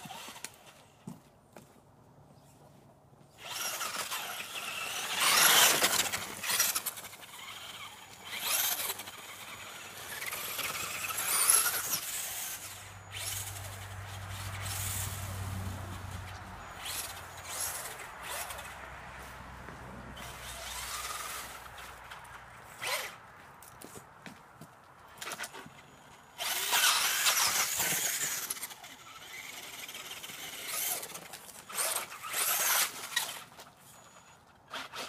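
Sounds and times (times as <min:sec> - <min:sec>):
rc car motor whining: 0:00.0 - 0:00.8, 0:03.4 - 0:19.3, 0:20.2 - 0:23.2, 0:25.1 - 0:35.0.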